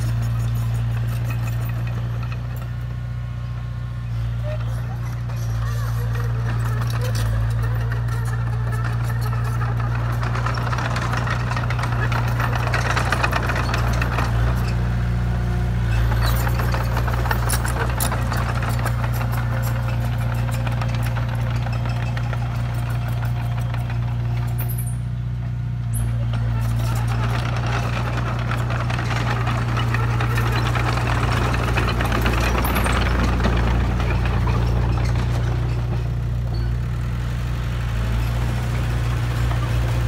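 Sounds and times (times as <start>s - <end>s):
steel tracks clicking rattle: 0.0s - 3.0s, 4.1s - 15.0s, 15.7s - 37.2s
bulldozer diesel engine humming: 0.0s - 40.0s.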